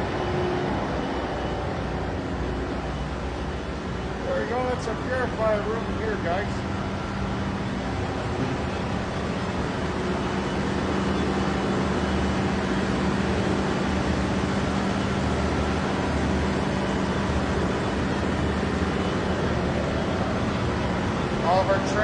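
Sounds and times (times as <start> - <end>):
ship engine room machinery drone: 0.0 - 22.0.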